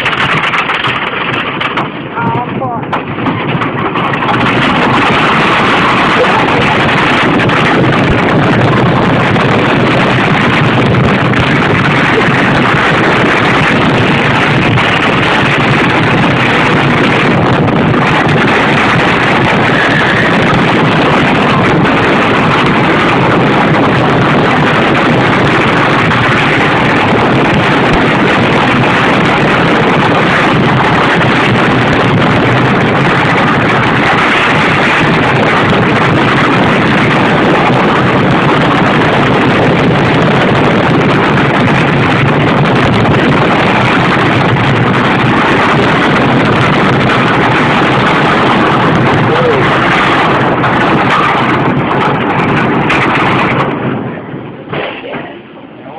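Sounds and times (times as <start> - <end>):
roller coaster train rumbling: 0.0 - 55.9
wind rushing on microphone: 0.0 - 55.9.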